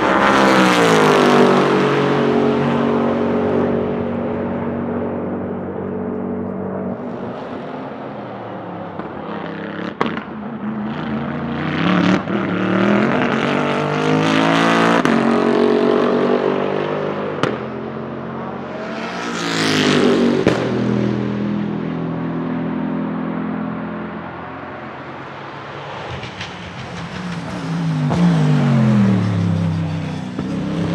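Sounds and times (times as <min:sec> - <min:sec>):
race car accelerating and passing: 0:00.0 - 0:30.9.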